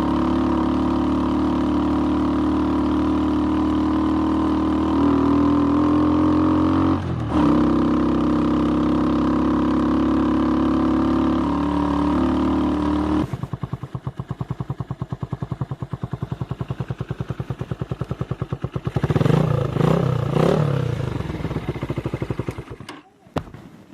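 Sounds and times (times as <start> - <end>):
motorcycle engine running and revving: 0.0 - 23.6.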